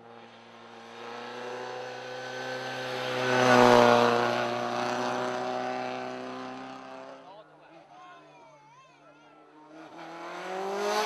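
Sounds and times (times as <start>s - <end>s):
rally car engine passing by: 0.0s - 8.3s, 9.4s - 11.0s.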